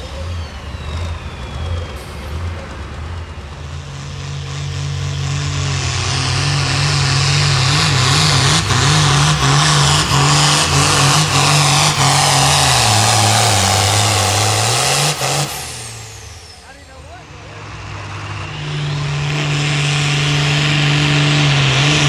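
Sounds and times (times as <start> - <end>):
diesel tractor engine at full throttle: 0.0 - 22.0.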